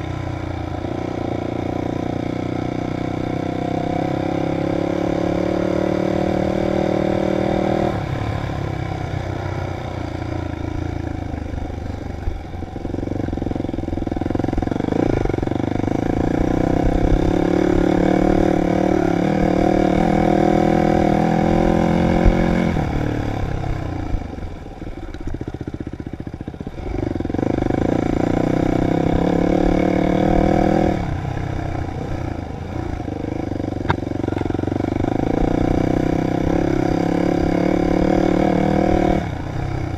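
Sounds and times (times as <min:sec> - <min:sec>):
dirt bike engine revving: 0:00.9 - 0:08.2, 0:12.8 - 0:23.9, 0:25.6 - 0:39.9.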